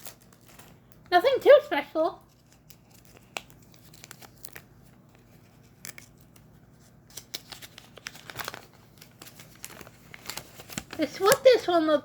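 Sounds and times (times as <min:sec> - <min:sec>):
plastic bags crinkling: 0:00.0 - 0:01.3, 0:02.2 - 0:06.3, 0:07.1 - 0:11.6.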